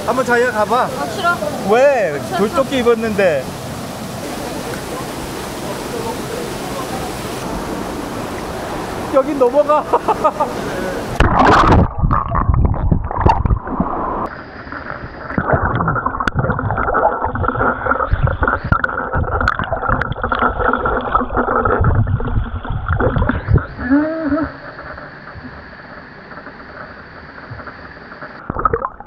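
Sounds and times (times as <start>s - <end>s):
stream water gurgling: 0.0s - 29.0s.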